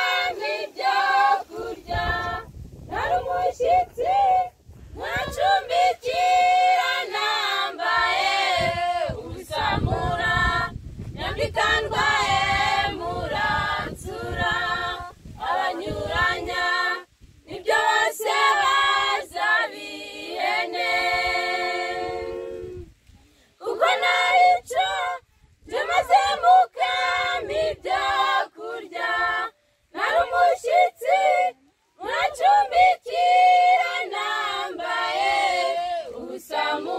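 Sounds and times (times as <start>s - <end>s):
women's choir singing a hymn: 0.0s - 22.9s, 23.6s - 36.9s.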